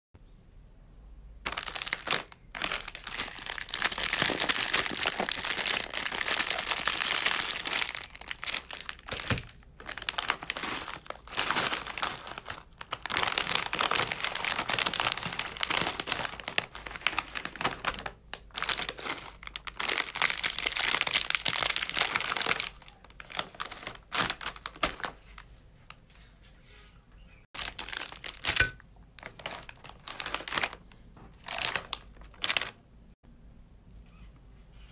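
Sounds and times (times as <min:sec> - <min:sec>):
crispy snacks crushing: 0:01.4 - 0:25.3, 0:27.6 - 0:32.8
plastic snack bags crinkling: 0:01.4 - 0:25.4, 0:27.5 - 0:32.8.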